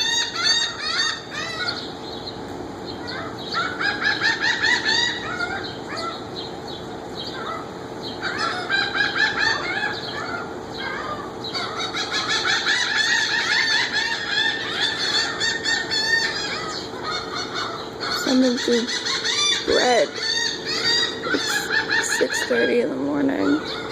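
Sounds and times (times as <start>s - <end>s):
flock of birds cackling: 0.0s - 23.9s.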